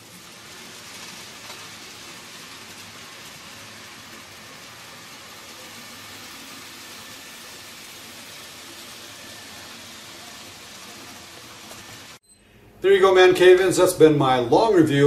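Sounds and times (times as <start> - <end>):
model train wheels hissing on track: 0.0 - 12.2.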